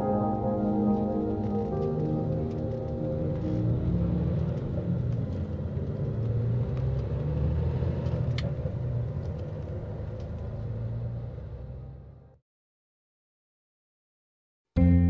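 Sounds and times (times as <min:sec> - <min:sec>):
car engine and road rumble: 0:00.0 - 0:12.4.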